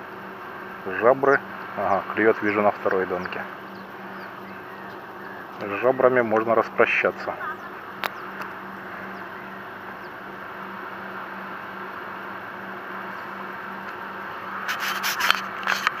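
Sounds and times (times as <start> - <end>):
faint low hum: 0.0 - 14.8.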